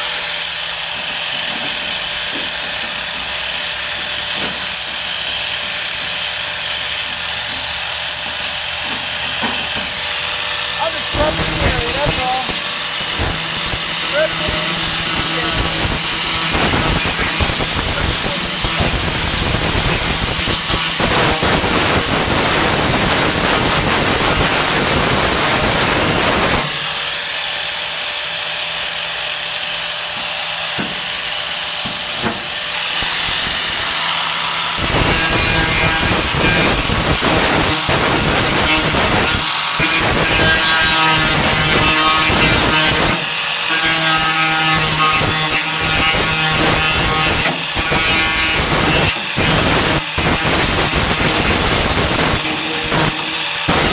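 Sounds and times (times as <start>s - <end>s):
angle grinder grinding metal: 0.0s - 53.9s.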